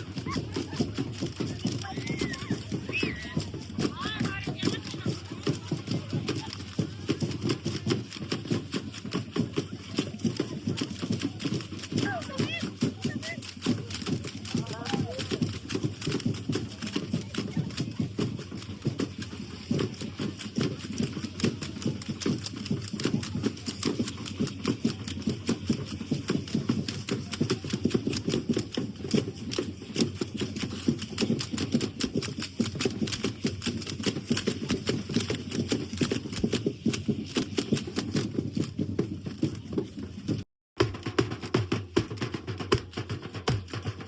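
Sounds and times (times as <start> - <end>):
dancers stamping and striking: 0.0 - 40.0.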